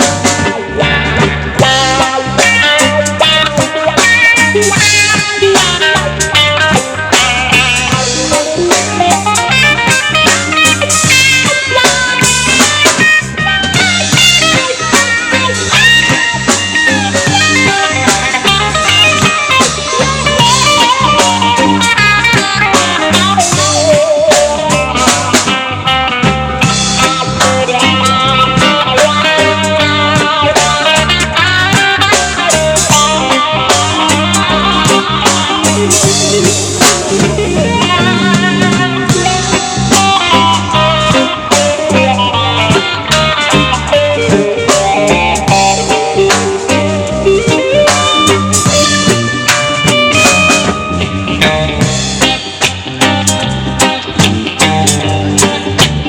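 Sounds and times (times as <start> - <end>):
drum kit: 0.0 - 56.0
electric guitar: 0.0 - 56.0
live band playing: 0.0 - 56.0.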